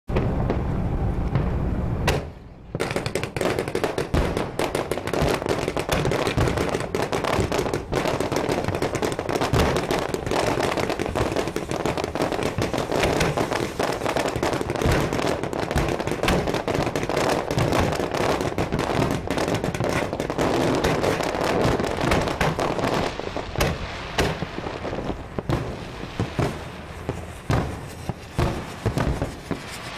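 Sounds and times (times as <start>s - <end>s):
fireworks bangs and crackle: 0.1s - 29.9s.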